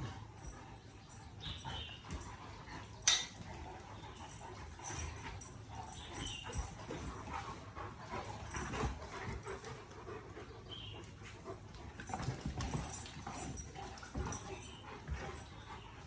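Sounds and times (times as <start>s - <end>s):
dogs thudding and scuffling: 0.0s - 16.0s.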